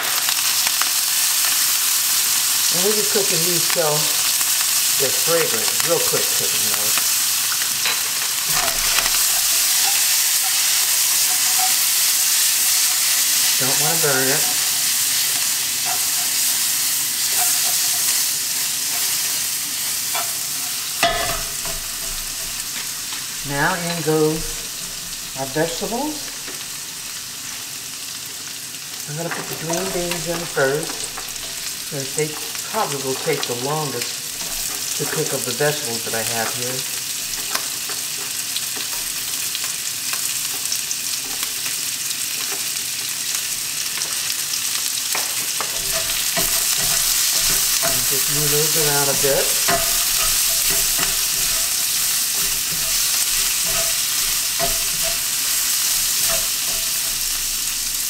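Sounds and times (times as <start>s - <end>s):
sizzling in hot oil: 0.0s - 58.0s
spatula scraping and tapping wok: 2.4s - 26.7s, 29.2s - 58.0s.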